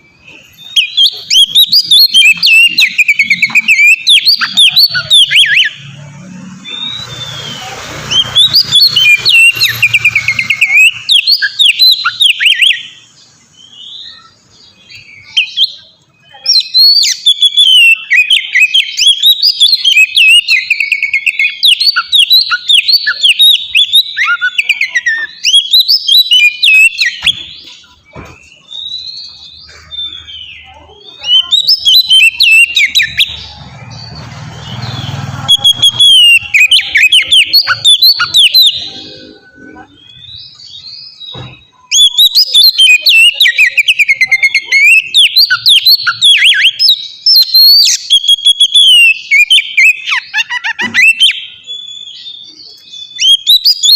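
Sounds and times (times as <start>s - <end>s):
bird singing whistles and trills: 0.0s - 53.9s.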